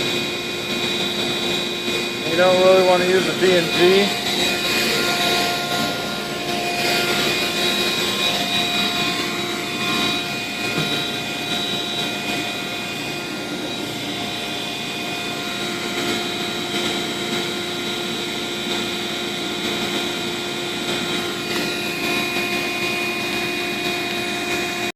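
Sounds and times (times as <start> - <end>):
motor whining steadily: 0.0 - 24.9.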